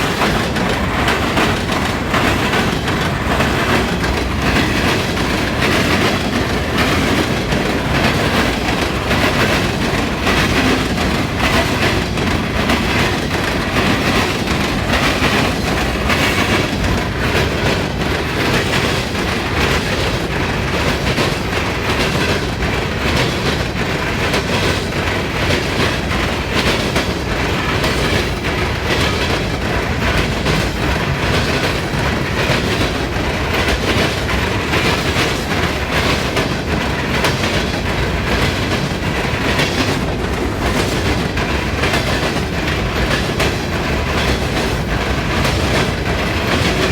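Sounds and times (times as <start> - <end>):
train wheels clattering over crossings: 0.0 - 46.9.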